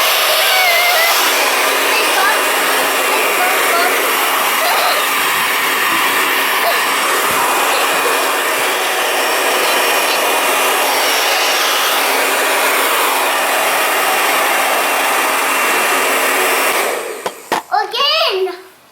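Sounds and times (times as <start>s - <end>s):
hair dryer blowing air: 0.0s - 17.9s.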